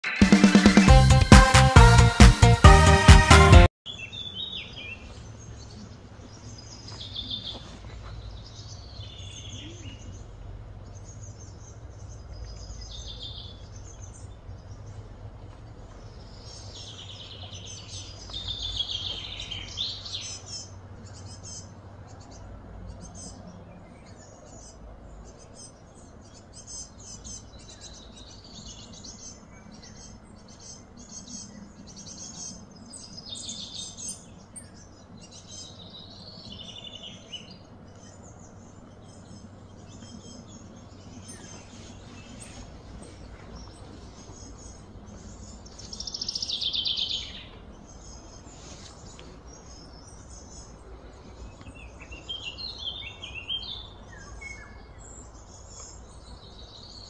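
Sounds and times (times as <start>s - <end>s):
birds calling and chirping: 3.9s - 57.0s
low background rumble: 8.0s - 33.3s, 34.2s - 57.0s.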